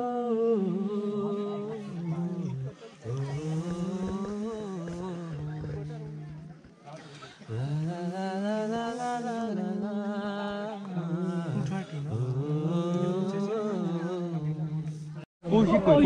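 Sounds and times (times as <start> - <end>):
person singing slow melody: 0.0 - 6.7, 7.4 - 15.2.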